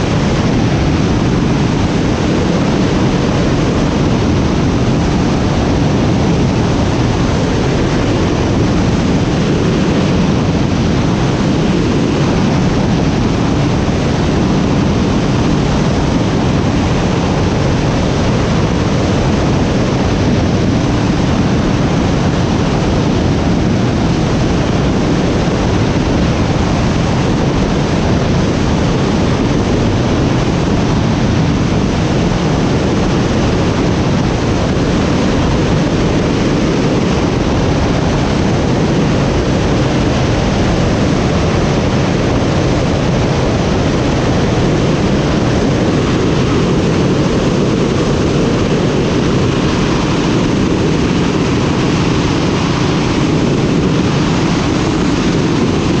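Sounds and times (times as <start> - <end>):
aircraft in flight rushing noise: 0.0 - 56.0.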